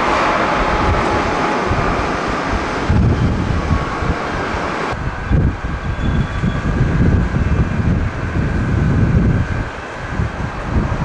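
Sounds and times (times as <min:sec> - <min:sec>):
faint jet engines: 0:00.0 - 0:11.0
wind buffeting microphone: 0:00.0 - 0:11.0.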